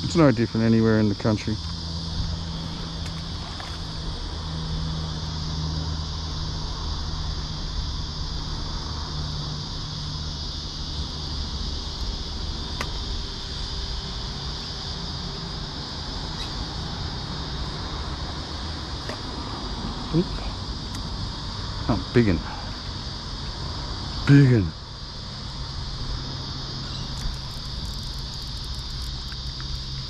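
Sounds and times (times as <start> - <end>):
insects chirring: 0.0 - 30.0
traffic hum: 0.0 - 30.0.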